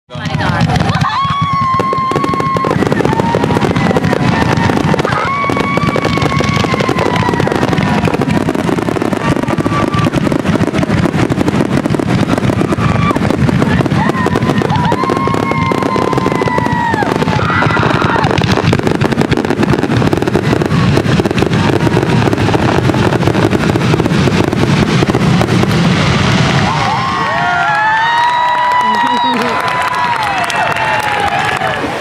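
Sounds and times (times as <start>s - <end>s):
fireworks bangs and crackling: 0.1s - 32.0s.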